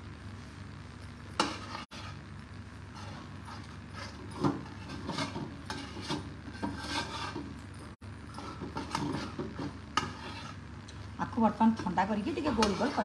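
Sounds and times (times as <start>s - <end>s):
low steady hum: 0.0s - 13.0s
wooden spatula scraping brass pan: 1.4s - 10.7s, 11.7s - 13.0s.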